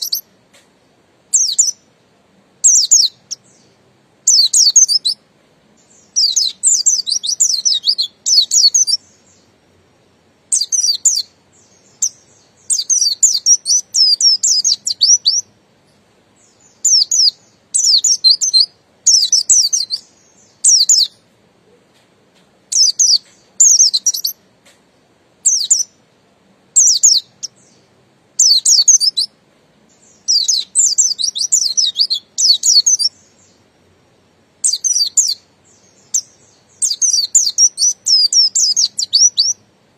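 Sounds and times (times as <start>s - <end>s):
bird high twittering song: 0.0s - 22.0s, 22.7s - 26.1s, 26.7s - 39.7s.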